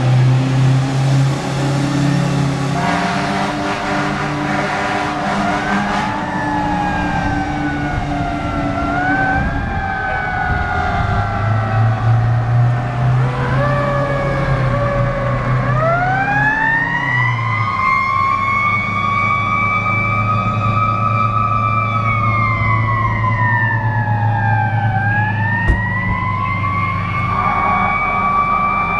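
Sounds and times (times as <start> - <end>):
fire truck siren wailing: 0.0 - 28.9
truck engines rumbling: 0.0 - 28.9.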